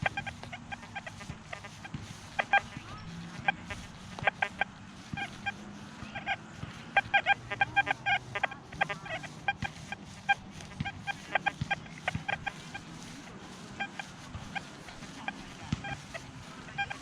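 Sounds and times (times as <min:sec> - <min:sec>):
metal detector beeps: 0:00.0 - 0:17.0.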